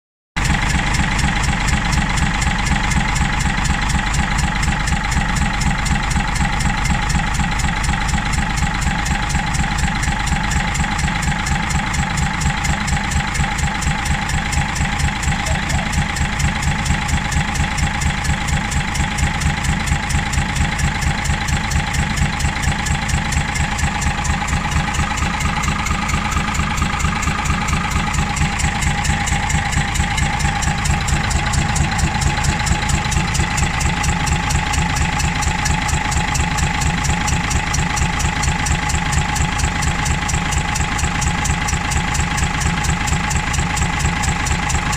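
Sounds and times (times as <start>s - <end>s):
diesel engine idling knocky: 0.4s - 44.9s.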